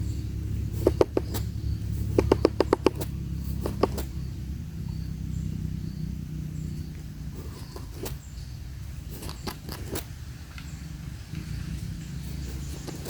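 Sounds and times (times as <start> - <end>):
steady low rumble: 0.0 - 13.0
woodpecker tapping on wood: 0.1 - 5.6, 6.7 - 13.0.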